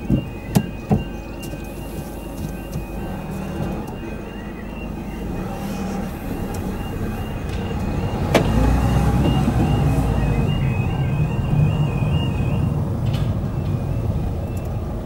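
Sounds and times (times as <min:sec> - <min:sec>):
car engine rumbling: 0:00.0 - 0:15.0
level crossing warning tones: 0:00.0 - 0:15.0.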